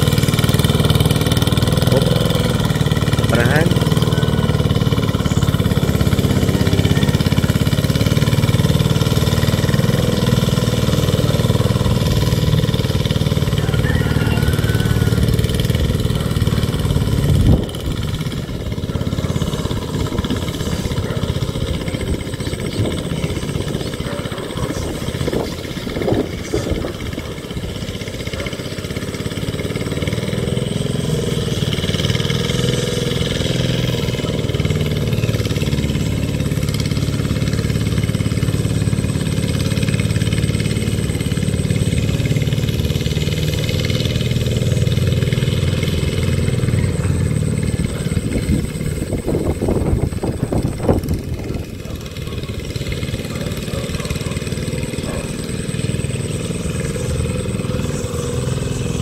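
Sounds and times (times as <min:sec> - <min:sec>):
hand tractor engine running: 0:00.0 - 0:59.0.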